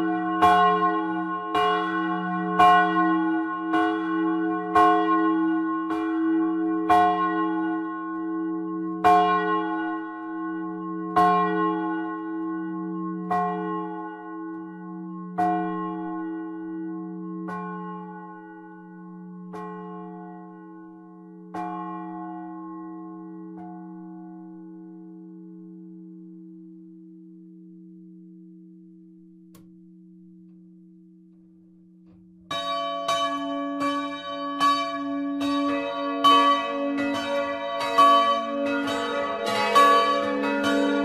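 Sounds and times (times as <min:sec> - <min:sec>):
church bell ringing: 0:00.0 - 0:31.2, 0:32.0 - 0:41.0.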